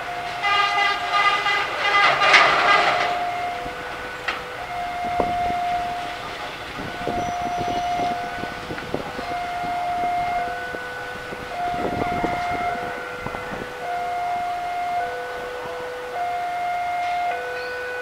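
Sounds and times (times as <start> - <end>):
level crossing alarm tone: 0.0 - 18.0
locomotive horn: 0.0 - 18.0
vehicles rumbling over crossing: 0.0 - 18.0.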